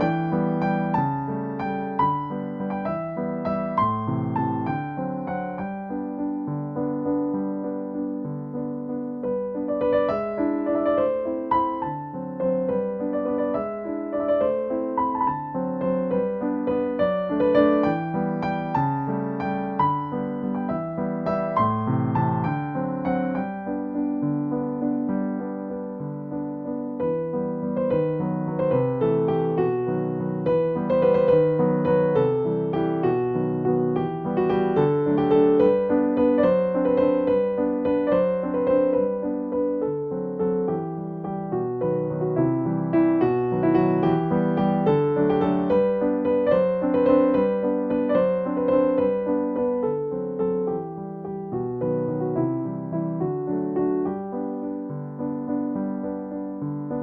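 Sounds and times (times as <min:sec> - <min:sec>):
slow gentle piano music: 0:00.0 - 0:57.0.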